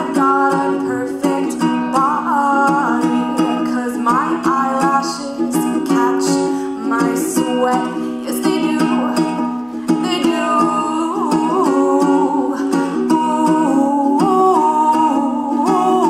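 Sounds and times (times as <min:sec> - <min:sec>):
strummed ukulele: 0:00.0 - 0:16.0
woman singing: 0:00.0 - 0:16.0.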